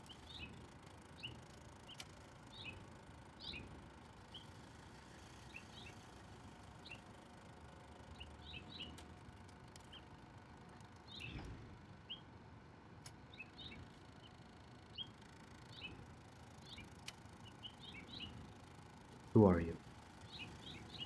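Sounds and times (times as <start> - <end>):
small birds chirping: 0.0 - 12.4, 13.1 - 21.0.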